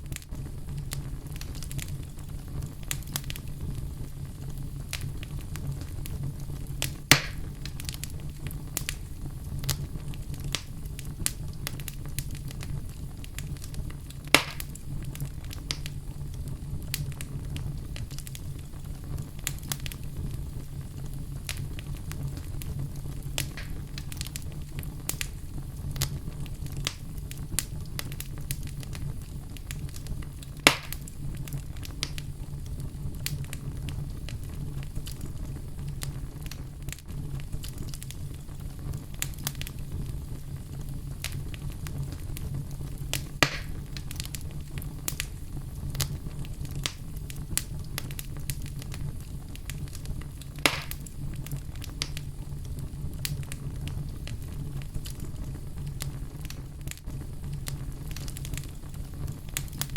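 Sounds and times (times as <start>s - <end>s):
loud fire pops: 0.0s - 59.9s
wood fire crackling: 0.0s - 59.9s.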